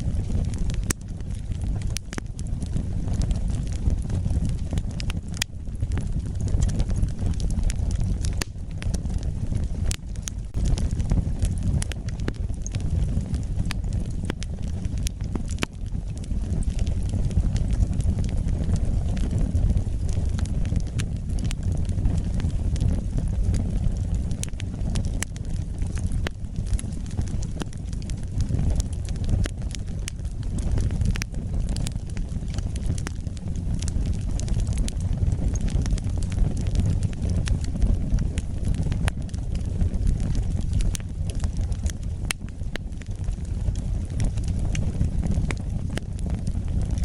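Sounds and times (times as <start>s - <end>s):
crackles and pops of burning logs: 0.0s - 47.0s
low flame rumble: 0.0s - 47.0s.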